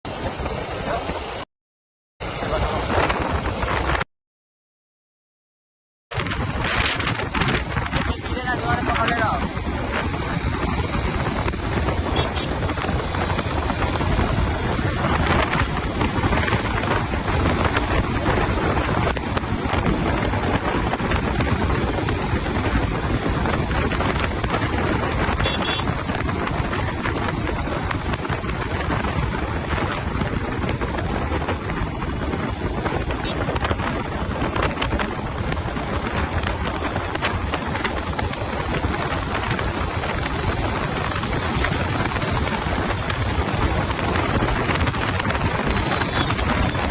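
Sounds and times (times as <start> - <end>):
wind buffeting microphone: 2.2 - 4.0, 6.1 - 46.9.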